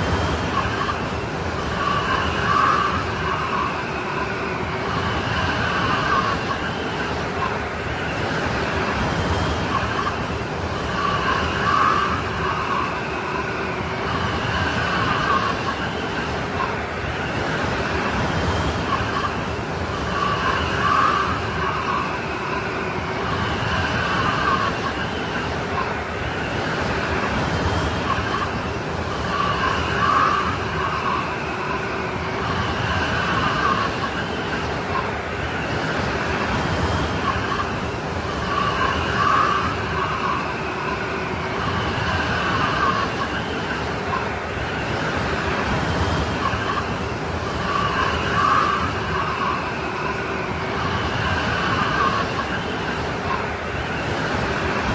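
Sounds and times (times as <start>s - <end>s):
snowstorm wind blowing: 0.0s - 54.9s.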